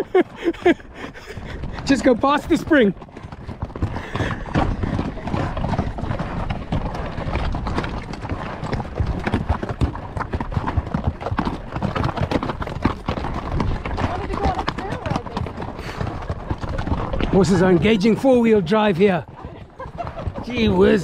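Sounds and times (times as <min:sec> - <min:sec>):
horse hooves clip-clopping: 0:00.0 - 0:21.0.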